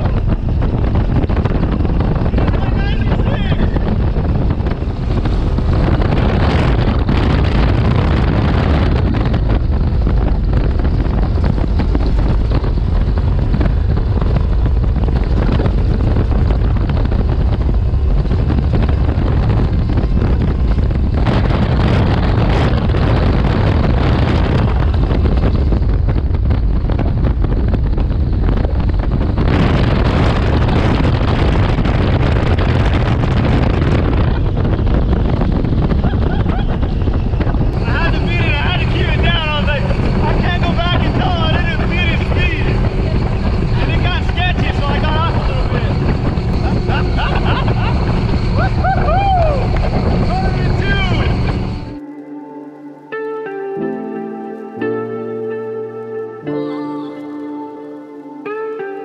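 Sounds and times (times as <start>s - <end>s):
speedboat engine rumbling: 0.0s - 54.2s
wind buffeting microphone: 0.0s - 59.0s.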